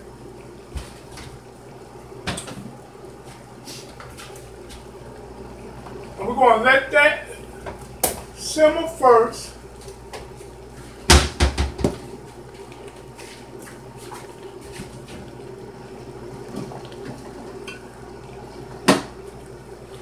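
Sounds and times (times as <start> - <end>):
electric burner hum: 0.0 - 20.0.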